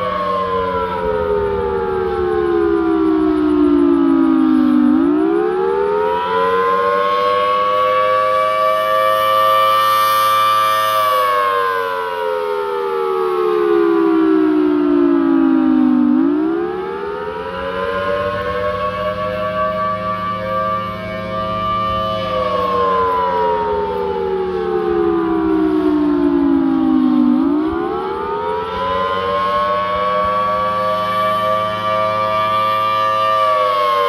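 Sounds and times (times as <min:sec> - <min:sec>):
warning siren wailing: 0:00.0 - 0:34.0.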